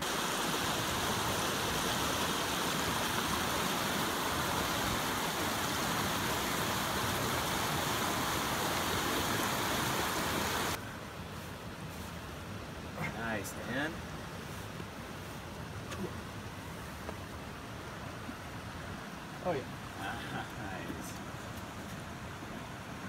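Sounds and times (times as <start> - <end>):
river rapids rushing: 0.0 - 23.0.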